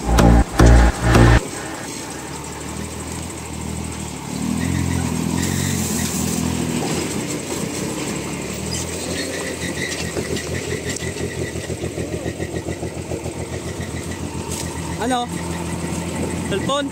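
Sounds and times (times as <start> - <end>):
truck engine pulling through mud: 2.4 - 16.9.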